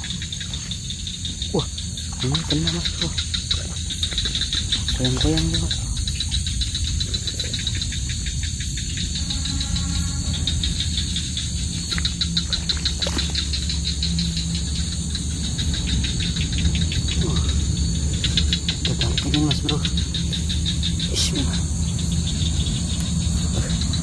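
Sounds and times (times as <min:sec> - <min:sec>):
low steady hum: 0:00.0 - 0:24.0
night insects trilling: 0:00.0 - 0:24.0.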